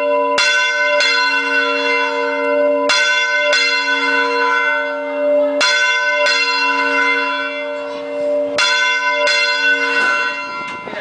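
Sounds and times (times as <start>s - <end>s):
large church bell ringing: 0.0s - 11.0s.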